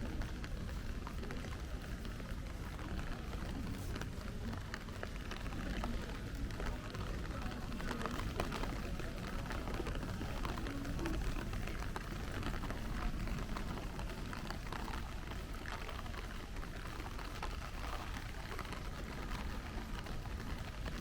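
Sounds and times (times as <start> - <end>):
constant low rumble: 0.0 - 21.0
rain drops ticking: 0.0 - 21.0.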